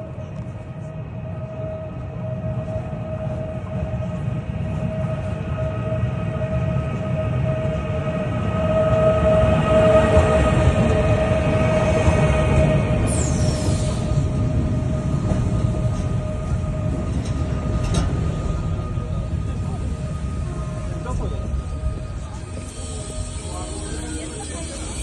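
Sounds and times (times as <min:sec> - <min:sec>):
electric train rumble and whine: 0:00.0 - 0:25.0.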